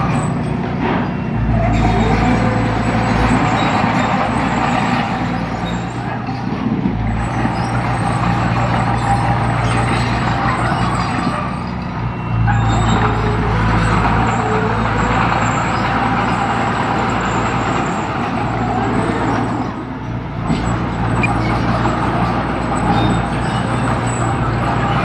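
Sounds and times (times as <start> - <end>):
diesel construction machine running: 0.0 - 25.0.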